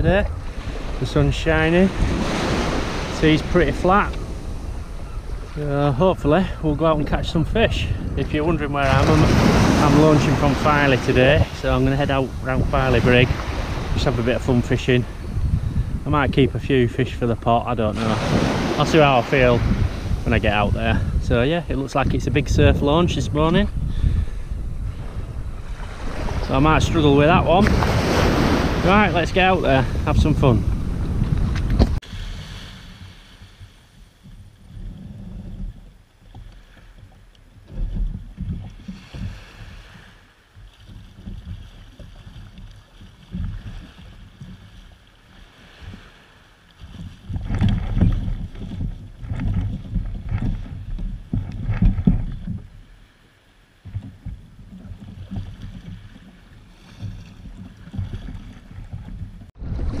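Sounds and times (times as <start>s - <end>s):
wind rumbling on microphone: 0.0s - 60.0s
water sloshing and splashing: 0.2s - 20.4s, 21.8s - 60.0s.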